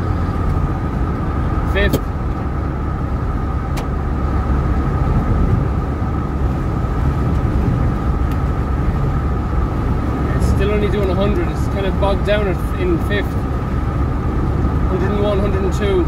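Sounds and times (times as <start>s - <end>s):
diesel engine drone: 0.0s - 16.0s
road and wind noise: 0.0s - 16.0s.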